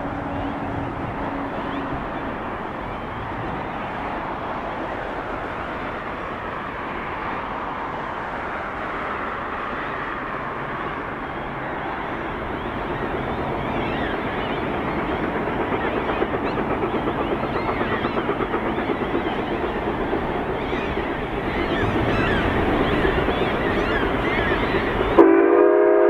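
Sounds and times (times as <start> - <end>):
steady outdoor rush: 0.0 - 25.6
distant steam locomotive exhaust beats: 0.0 - 26.0.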